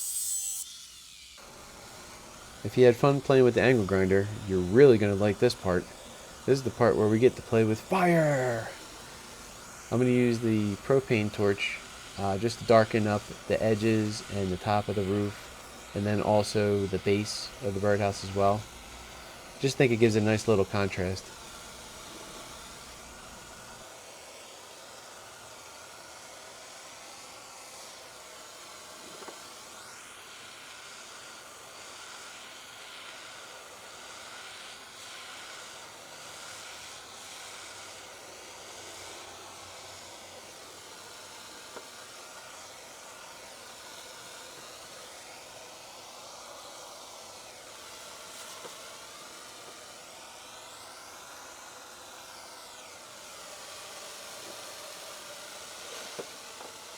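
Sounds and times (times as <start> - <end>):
propane torch hissing: 0.0 - 56.9.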